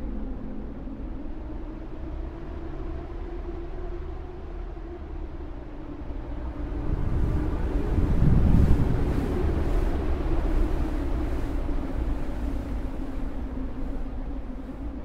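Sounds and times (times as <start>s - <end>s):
low wind noise: 0.0s - 15.0s.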